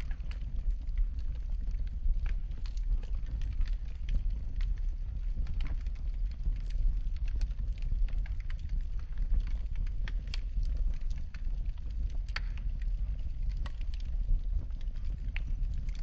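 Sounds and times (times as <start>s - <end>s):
fire crackling and popping: 0.0s - 16.0s
fire low rumble: 0.0s - 16.0s.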